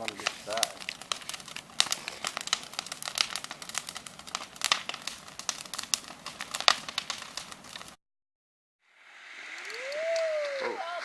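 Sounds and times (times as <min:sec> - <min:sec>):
bonfire crackling and popping: 0:00.0 - 0:08.0, 0:08.9 - 0:11.0.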